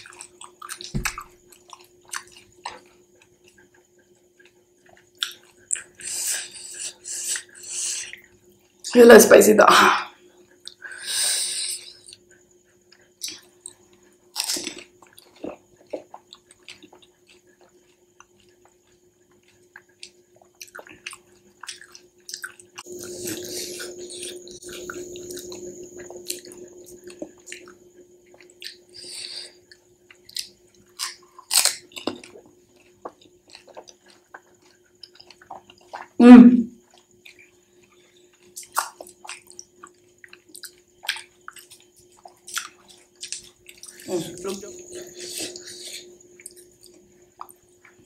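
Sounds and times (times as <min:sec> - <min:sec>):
crunchy food chewing: 0:00.0 - 0:08.9, 0:11.8 - 0:36.2, 0:36.8 - 0:48.0.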